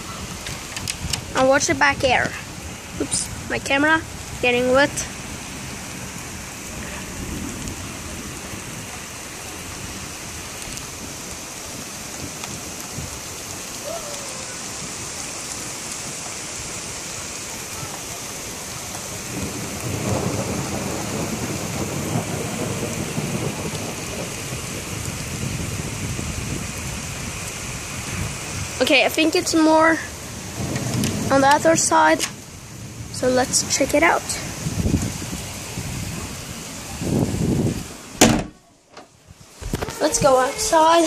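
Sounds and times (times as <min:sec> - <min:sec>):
steady rain falling: 0:00.0 - 0:41.0
thunder rumbling: 0:00.0 - 0:41.0.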